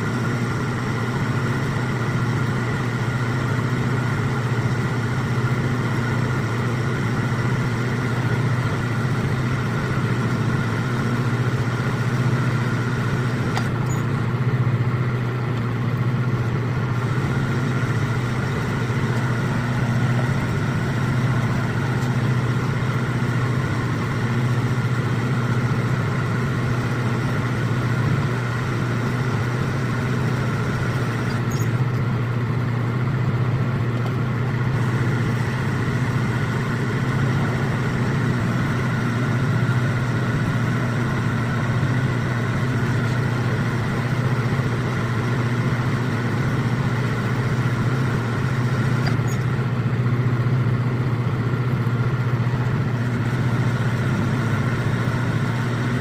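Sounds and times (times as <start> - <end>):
metal lathe humming: 0.0 - 50.8.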